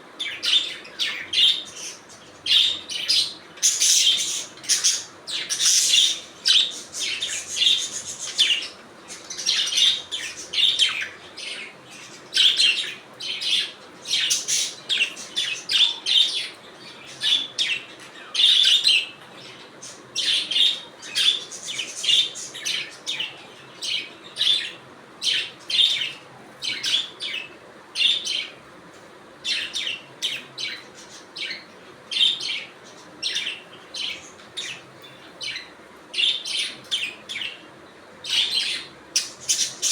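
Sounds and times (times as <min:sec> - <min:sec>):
budgerigars chirping: 0:00.2 - 0:28.6, 0:29.4 - 0:37.6, 0:38.2 - 0:39.9.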